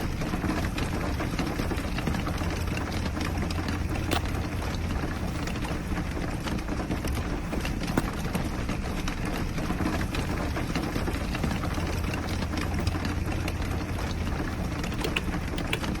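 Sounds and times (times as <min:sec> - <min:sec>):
rain pattering on a roof: 0:00.0 - 0:16.0.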